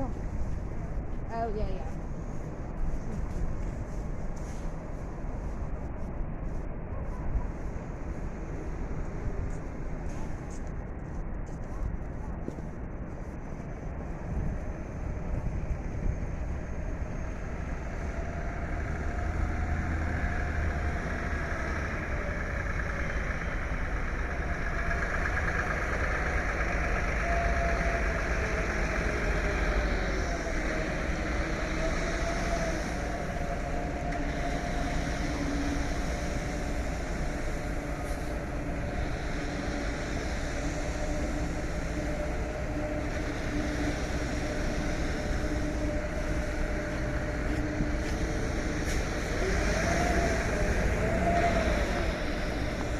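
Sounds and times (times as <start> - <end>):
road noise: 0.0 - 52.9
vehicle engine running: 0.0 - 52.9.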